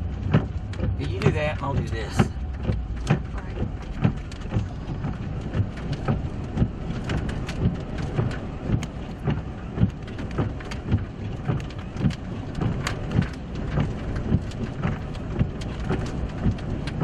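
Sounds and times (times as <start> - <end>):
low steady rumble: 0.0 - 17.0
raindrops hitting vehicle roof: 0.0 - 17.0.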